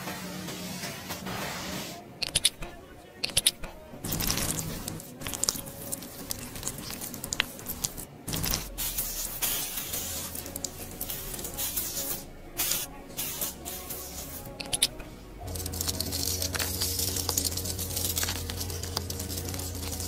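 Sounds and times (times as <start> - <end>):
razor scraping skin: 2.2 - 20.0.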